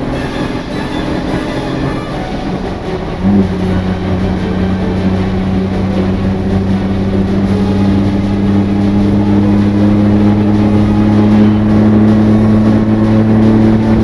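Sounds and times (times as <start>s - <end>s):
vehicle engine accelerating: 0.0s - 14.0s.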